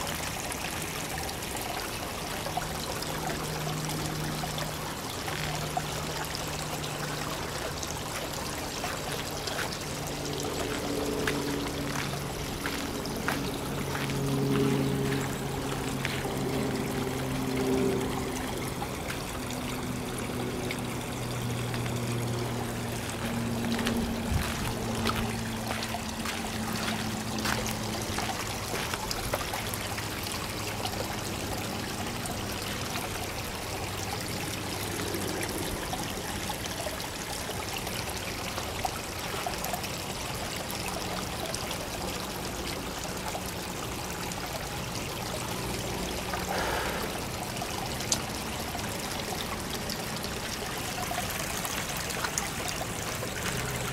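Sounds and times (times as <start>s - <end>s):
water trickling into pond: 0.0s - 53.9s.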